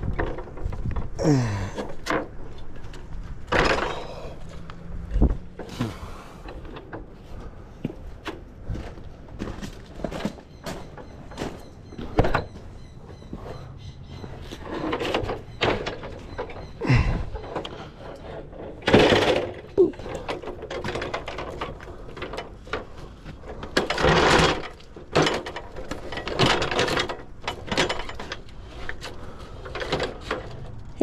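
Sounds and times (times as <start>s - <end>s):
knocks clicks and rustling: 0.0s - 31.0s.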